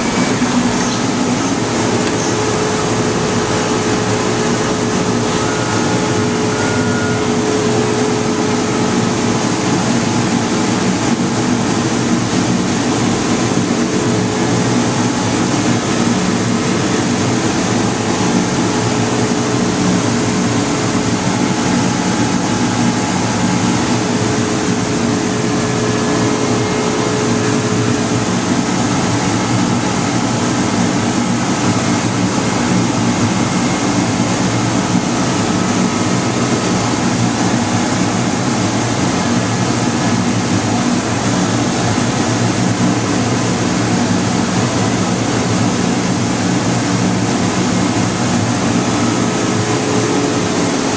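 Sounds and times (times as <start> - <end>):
blower rushing and humming: 0.0 - 50.9.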